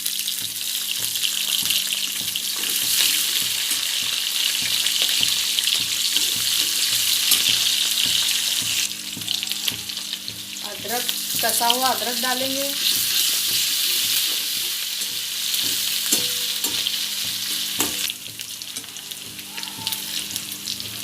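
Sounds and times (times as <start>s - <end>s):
spices sizzling in hot oil: 0.0s - 21.0s.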